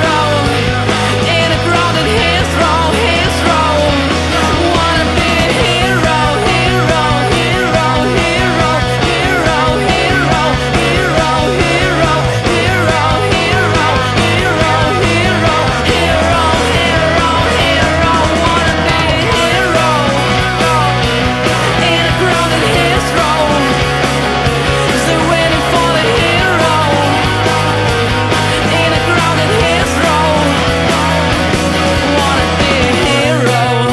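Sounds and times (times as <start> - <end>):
rock music with distorted guitars: 0.0 - 33.9.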